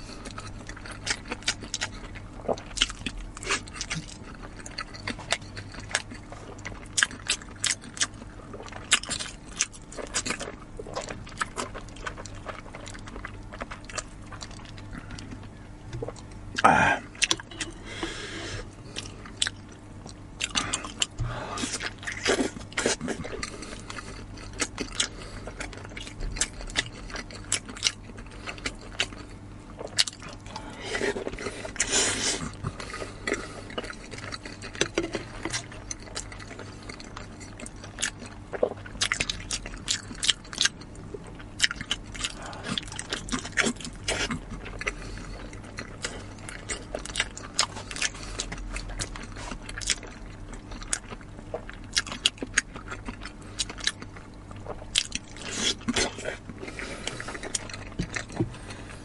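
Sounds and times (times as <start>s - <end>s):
wet chewing and biting: 0.2s - 59.0s.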